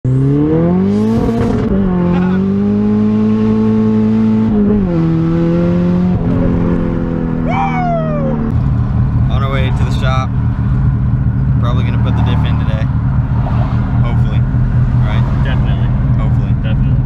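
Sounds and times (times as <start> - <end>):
car engine from inside cabin: 0.1 - 17.0.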